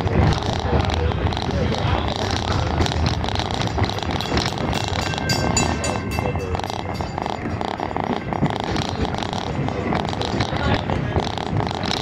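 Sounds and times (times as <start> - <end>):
train car rumbling on track: 0.0 - 12.0
wheels clattering: 0.0 - 12.0.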